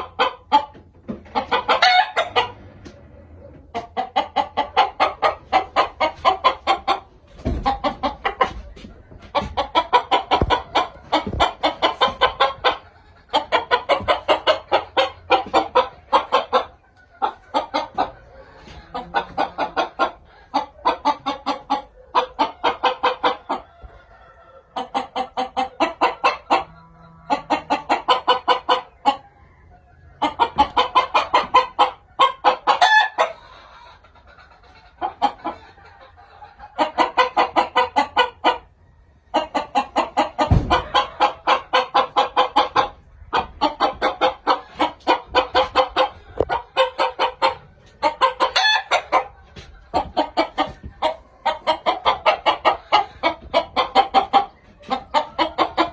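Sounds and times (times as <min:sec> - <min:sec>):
chickens clucking rapidly: 0:00.0 - 0:55.9.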